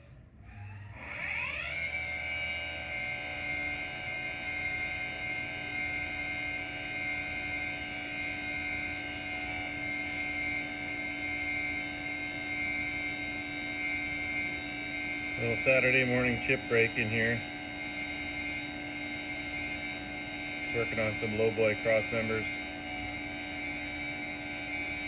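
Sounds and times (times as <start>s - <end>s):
machine spindle whining: 0.6s - 25.0s.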